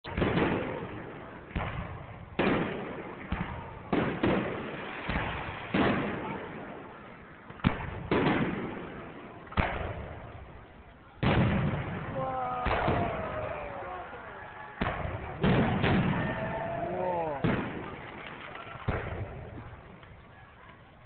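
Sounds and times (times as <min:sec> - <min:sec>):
firework bangs echoing: 0:00.1 - 0:20.8.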